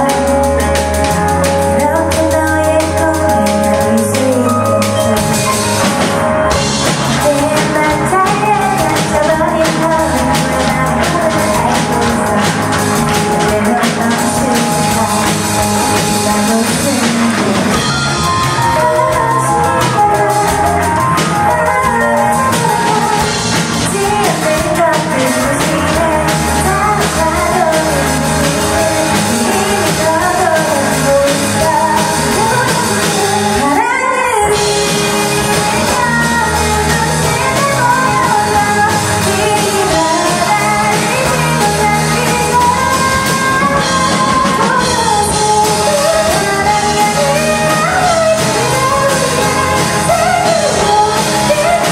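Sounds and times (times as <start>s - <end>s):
drum kit: 0.0s - 51.9s
live rock band playing: 0.0s - 51.9s
person singing: 0.0s - 51.9s.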